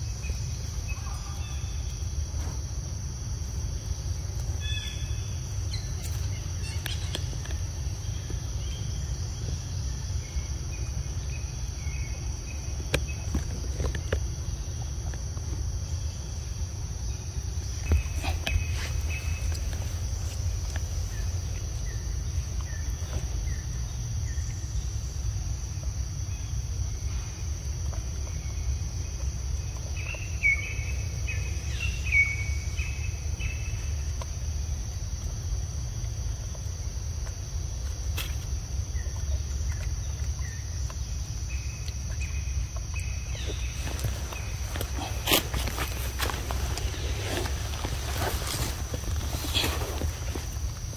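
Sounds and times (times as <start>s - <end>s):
insects droning: 0.0s - 50.9s
low constant rumble: 0.0s - 50.9s.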